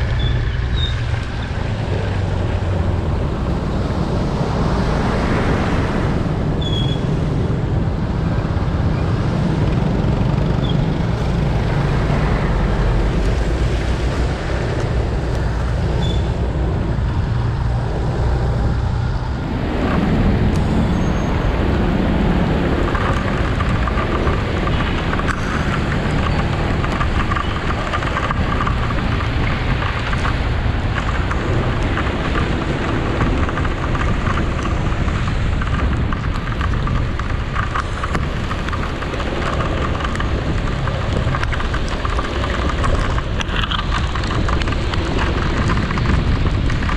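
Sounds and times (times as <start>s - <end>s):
rain: 0.0s - 46.9s
tyres on wet road: 0.0s - 46.9s.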